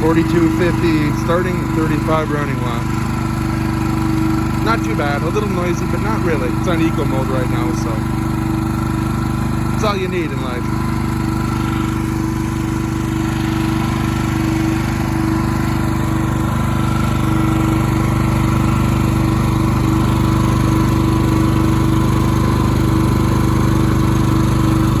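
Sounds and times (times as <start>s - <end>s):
generator engine hum: 0.0s - 25.0s.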